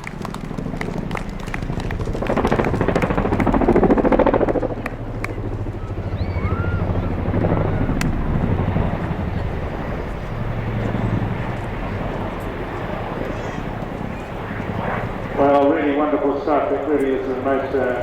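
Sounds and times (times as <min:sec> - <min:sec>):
low engine hum: 0:00.0 - 0:15.4
helicopter rotors chopping: 0:00.0 - 0:18.0.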